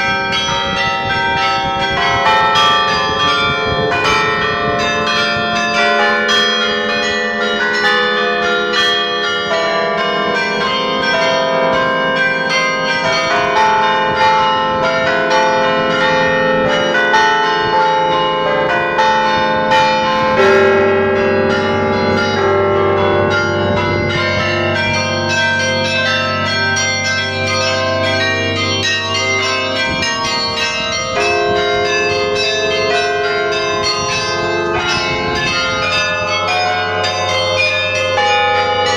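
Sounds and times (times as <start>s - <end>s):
carillon bells playing a tune: 0.0s - 38.9s
deep heavy bell humming: 0.0s - 38.9s.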